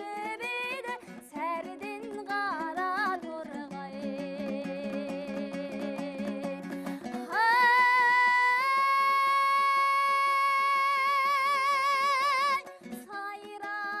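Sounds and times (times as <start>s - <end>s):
plucked string accompaniment: 0.0s - 14.0s.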